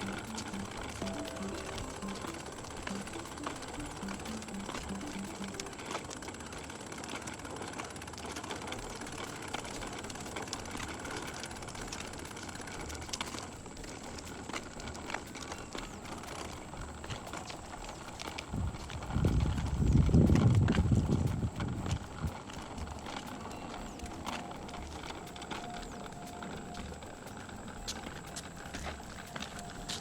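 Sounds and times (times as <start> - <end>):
small wheels rolling over pavement: 0.0 - 30.0.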